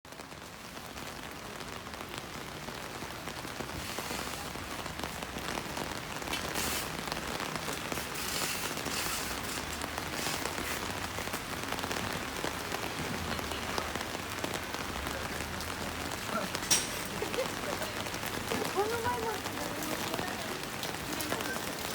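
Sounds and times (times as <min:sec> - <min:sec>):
rain pattering on hard surfaces: 0:00.1 - 0:21.9.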